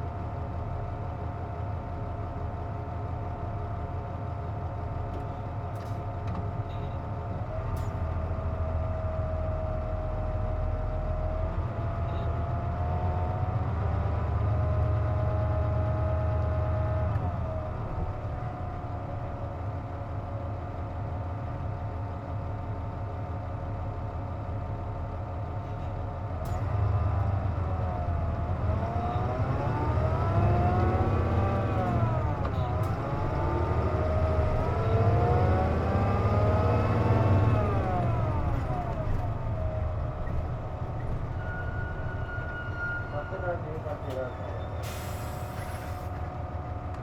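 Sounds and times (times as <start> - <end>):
bus engine changing gears: 4.6 - 22.2, 24.2 - 47.0.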